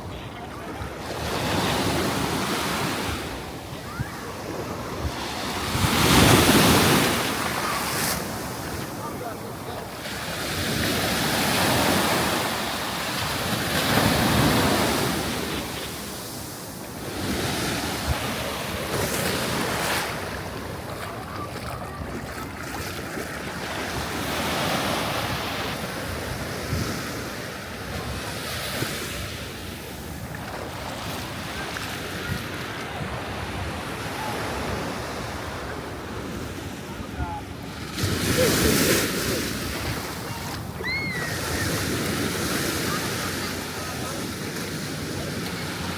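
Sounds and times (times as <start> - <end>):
surf breaking on a beach: 0.0 - 45.9.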